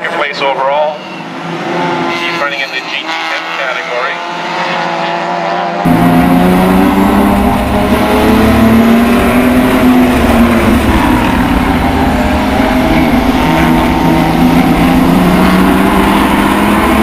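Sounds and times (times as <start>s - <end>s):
race car engine revving high: 1.2s - 17.0s.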